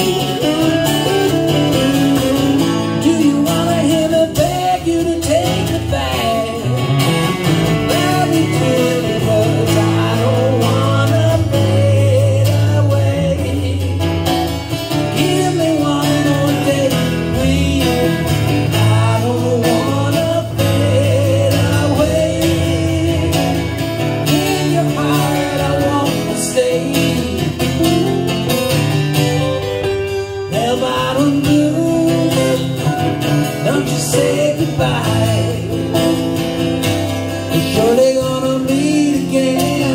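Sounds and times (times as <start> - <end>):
man singing: 0.0 - 28.4, 30.2 - 39.9
electric guitar: 0.0 - 39.9
strummed acoustic guitar: 0.0 - 39.9.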